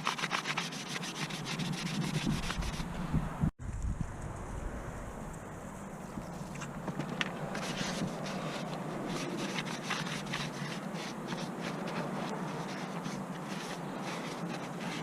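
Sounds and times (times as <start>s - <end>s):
rapid scraping and rubbing: 0.0s - 3.1s, 5.6s - 15.0s.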